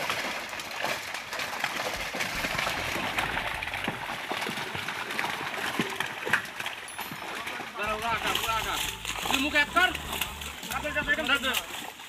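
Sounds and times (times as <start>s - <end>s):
fish splashing in water: 0.0s - 12.0s.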